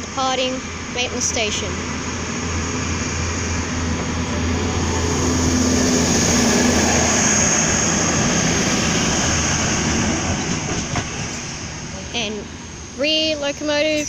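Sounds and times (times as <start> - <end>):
diesel railcar engine drone: 0.0 - 14.0
train rushing noise: 0.0 - 14.0.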